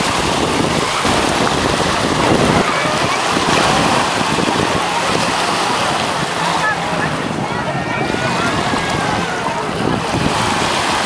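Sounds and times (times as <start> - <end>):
small waves breaking on beach: 0.0 - 11.0
wind noise on microphone: 0.0 - 11.0.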